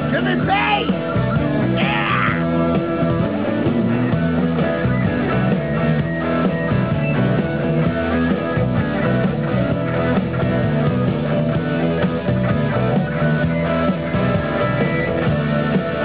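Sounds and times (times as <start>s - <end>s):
drums: 0.0s - 16.0s
electric guitars: 0.0s - 16.0s.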